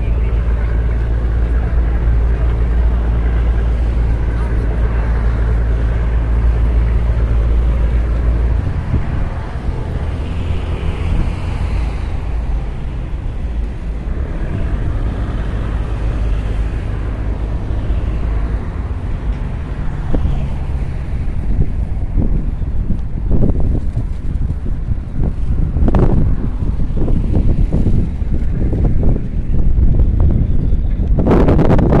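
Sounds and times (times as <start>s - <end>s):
ferry engine rumble: 0.0s - 32.0s
wind buffeting microphone: 0.0s - 32.0s.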